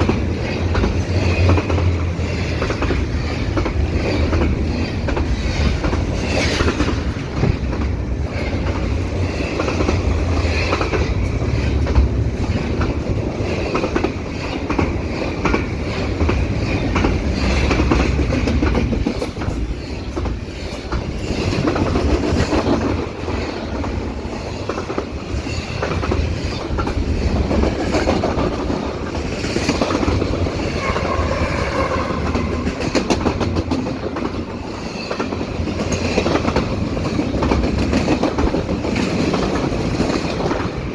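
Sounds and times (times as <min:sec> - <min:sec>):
train wheels rumbling on rails: 0:00.0 - 0:40.9
wheels clacking over rail joints: 0:00.0 - 0:40.9.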